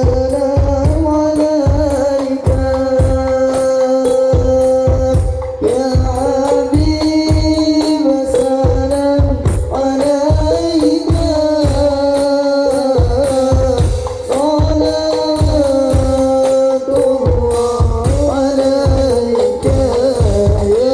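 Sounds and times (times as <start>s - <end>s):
devotional singing: 0.0s - 20.9s
frame drum beats: 0.0s - 20.9s.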